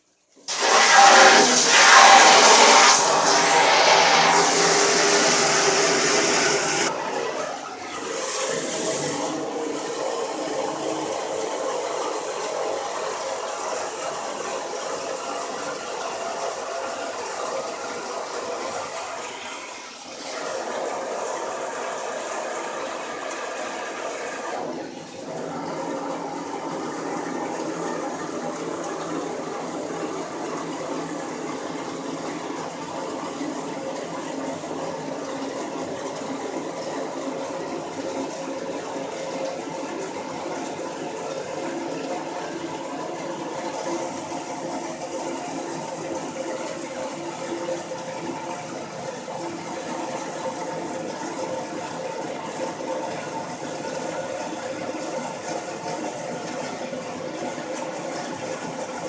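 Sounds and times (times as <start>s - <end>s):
water sloshing in washing machine: 0.4s - 59.0s.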